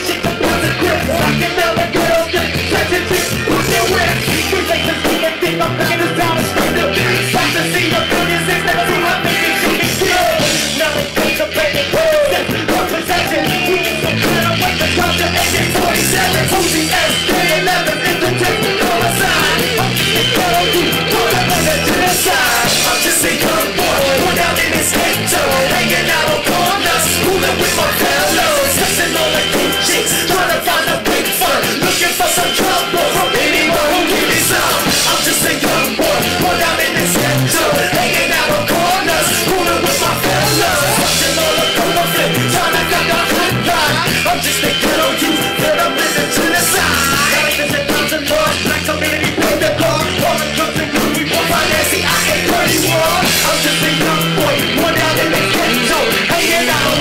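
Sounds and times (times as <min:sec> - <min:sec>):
music with heavy bass and vocals: 0:00.0 - 0:57.0.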